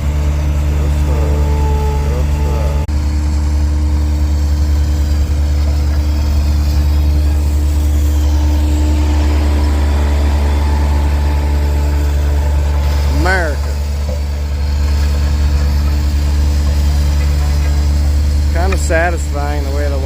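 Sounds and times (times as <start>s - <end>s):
road roller engine droning: 0.0s - 20.0s.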